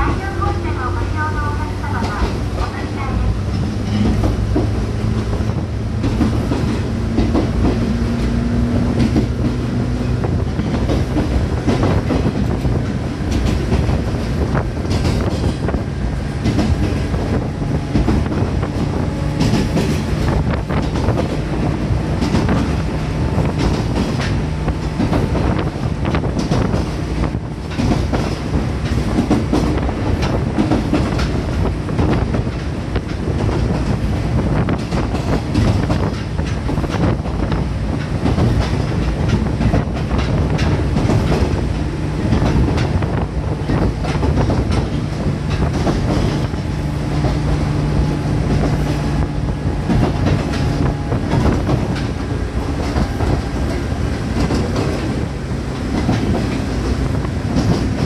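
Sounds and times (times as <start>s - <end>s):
clickety-clack of rail joints: 0.0s - 58.0s
train wheels rumbling on rails: 0.0s - 58.0s.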